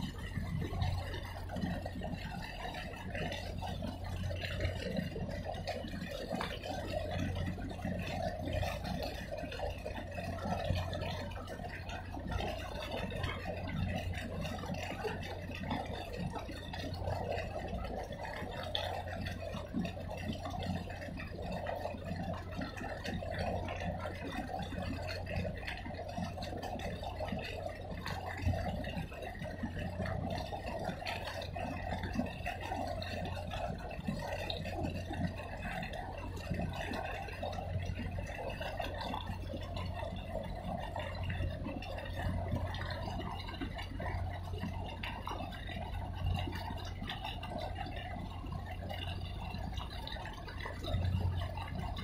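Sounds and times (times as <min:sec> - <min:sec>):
ship machinery hum: 0:00.0 - 0:52.0.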